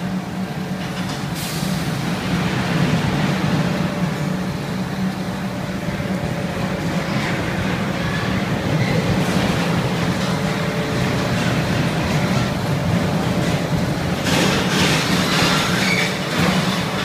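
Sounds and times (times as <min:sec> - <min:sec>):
blower fans humming: 0:00.0 - 0:17.0
rushing air: 0:00.0 - 0:17.0.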